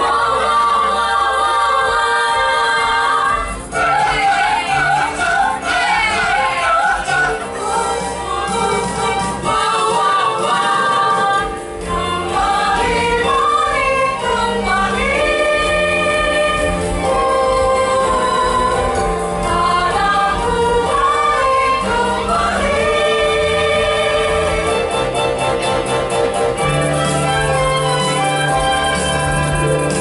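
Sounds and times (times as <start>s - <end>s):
instrumental backing with bass: 0.0s - 30.0s
mixed choir singing: 0.0s - 30.0s.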